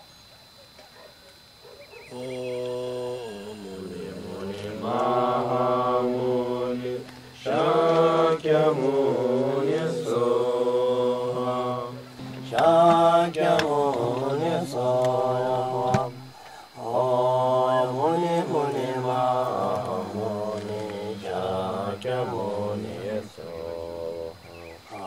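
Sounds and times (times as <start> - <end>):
mantra chanting: 2.1 - 25.0.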